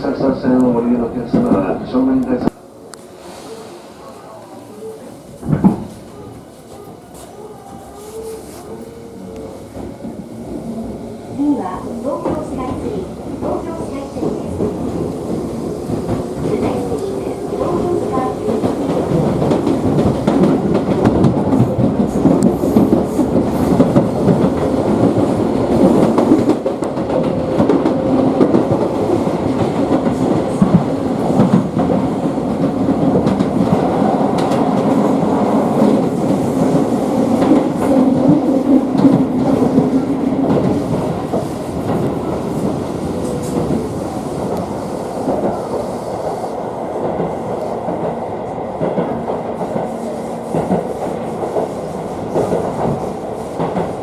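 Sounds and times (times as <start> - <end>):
train wheels rumbling on rail: 0.0 - 4.4, 5.1 - 54.0
clickety-clack over rail joints: 0.6 - 2.3, 5.4 - 7.8, 11.4 - 54.0.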